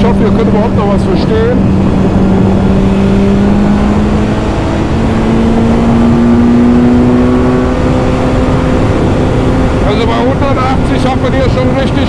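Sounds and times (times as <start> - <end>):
loud wind roar: 0.0 - 12.0.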